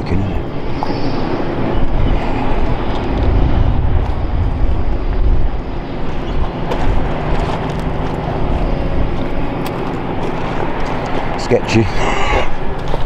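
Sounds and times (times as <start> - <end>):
demolition machinery engine drone: 0.0 - 13.0.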